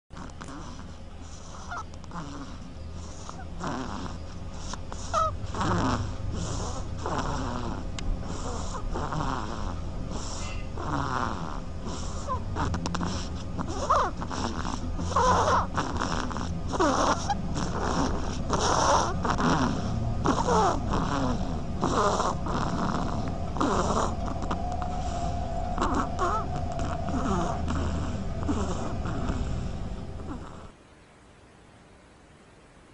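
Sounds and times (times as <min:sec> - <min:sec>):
ducks making snore-like rasps: 0:00.1 - 0:30.8
steady low hum: 0:00.1 - 0:32.9.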